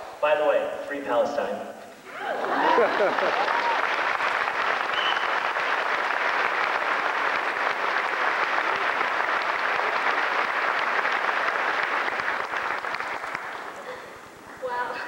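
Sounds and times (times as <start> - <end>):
audience applauding: 2.1 - 14.7.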